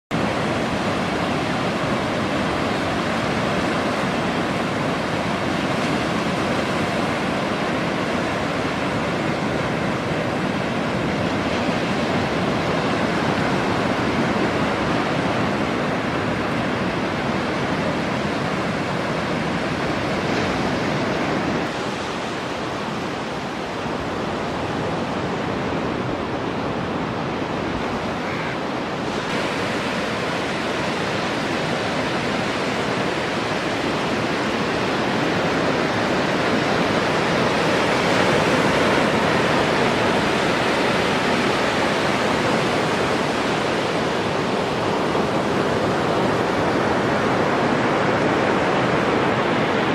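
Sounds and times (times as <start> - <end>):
waves breaking on a beach: 0.1 - 49.9.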